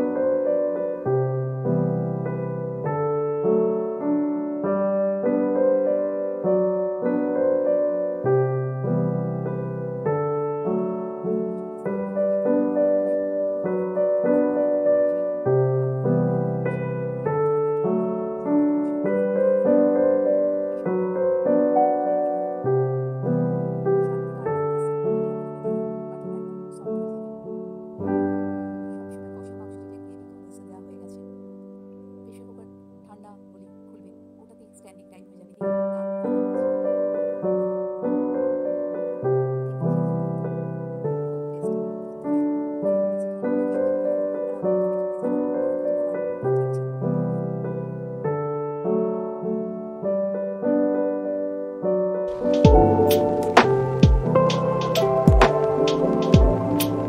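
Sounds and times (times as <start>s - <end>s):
solo piano chords: 0.0s - 57.0s.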